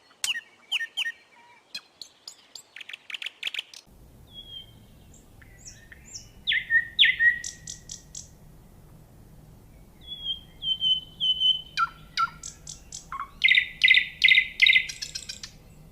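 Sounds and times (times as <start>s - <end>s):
nightingale singing: 0.0s - 8.4s, 9.6s - 15.9s.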